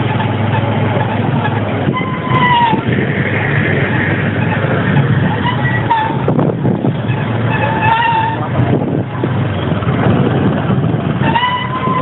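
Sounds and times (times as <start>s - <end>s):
motorcycle running: 0.0s - 12.0s
road noise: 0.0s - 12.0s
wind rushing on microphone: 1.5s - 12.0s.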